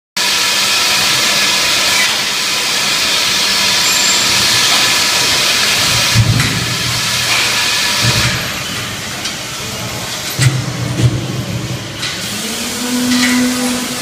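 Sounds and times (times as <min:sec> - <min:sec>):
machinery hissing: 0:00.2 - 0:14.0.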